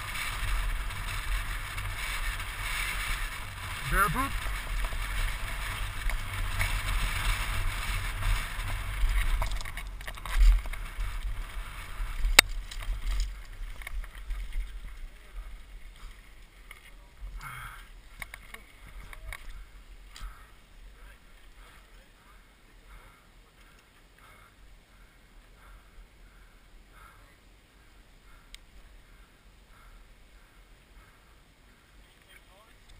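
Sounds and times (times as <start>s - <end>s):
bike tyre rumble on gravel: 0.0s - 27.1s.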